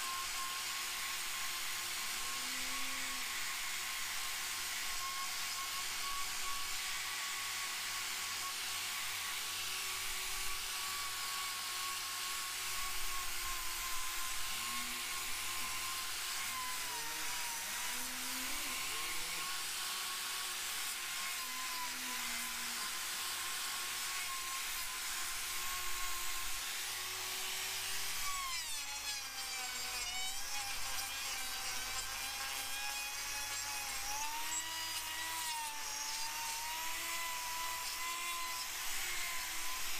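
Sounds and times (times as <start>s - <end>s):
angle grinder whining: 0.0s - 39.9s.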